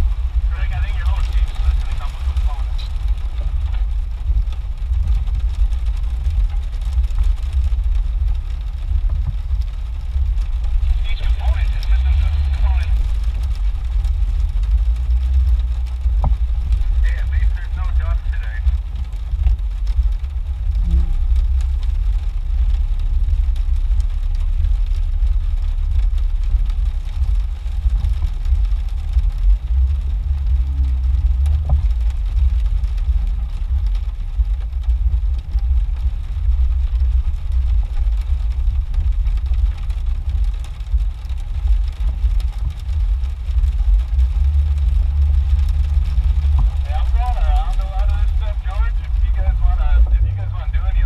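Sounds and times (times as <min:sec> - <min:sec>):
engine low rumble: 0:00.0 - 0:51.0.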